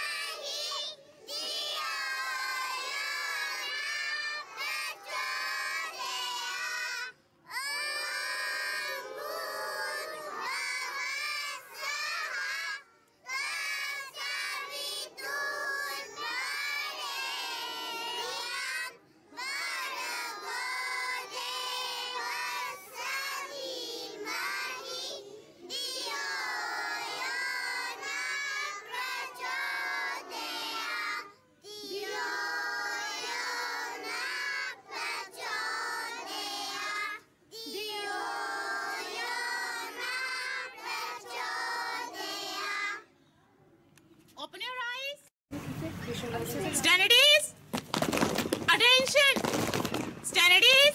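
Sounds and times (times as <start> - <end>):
girls singing in unison: 0.0 - 43.0.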